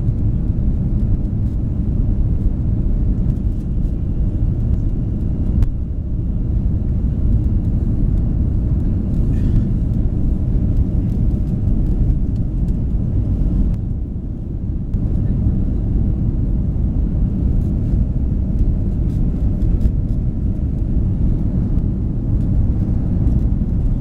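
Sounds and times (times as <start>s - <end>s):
jet engine and airflow rumble: 0.0s - 24.0s.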